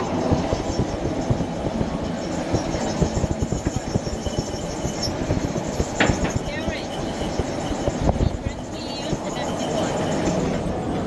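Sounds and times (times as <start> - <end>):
car tyres rattling over steel bridge: 0.0 - 11.0.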